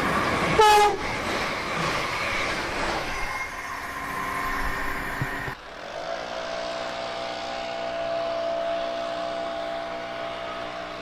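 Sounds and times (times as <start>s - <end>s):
electric train droning whine: 0.0s - 11.0s
train passing: 0.0s - 11.0s.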